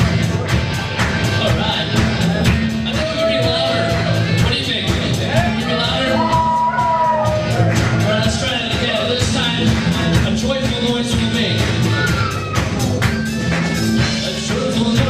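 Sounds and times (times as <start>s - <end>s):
acoustic and electric guitars: 0.0s - 15.0s
drum kit beat: 0.0s - 15.0s.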